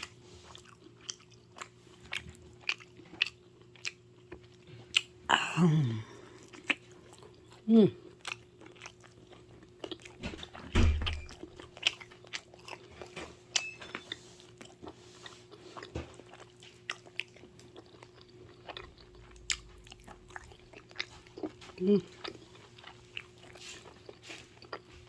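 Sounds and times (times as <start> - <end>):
chewing pizza: 0.0 - 25.0
faint steady hum: 0.0 - 25.0.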